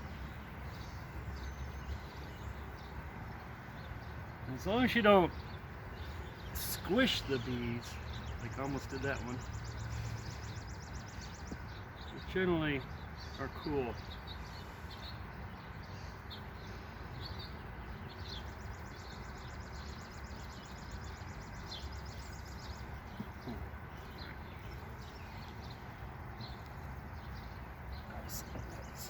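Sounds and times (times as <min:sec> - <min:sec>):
bird chirps: 0:00.0 - 0:29.0
honey bees humming: 0:00.0 - 0:29.0.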